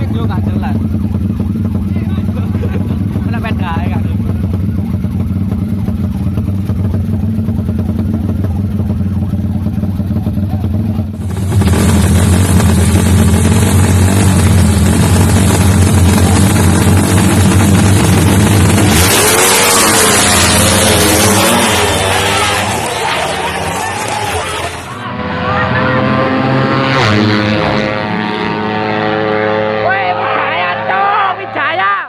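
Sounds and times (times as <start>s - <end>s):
race motorcycle engines droning: 0.0s - 32.0s.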